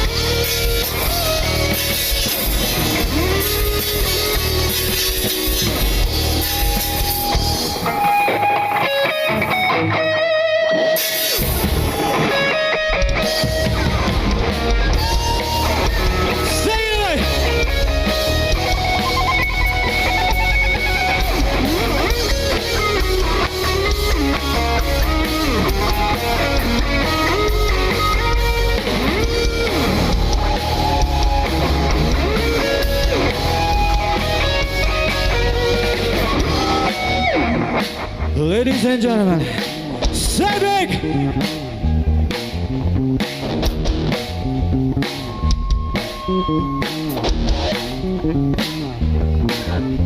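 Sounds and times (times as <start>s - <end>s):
bass guitar: 0.0s - 50.0s
drum kit: 0.0s - 50.0s
electric guitar lead: 0.0s - 50.0s.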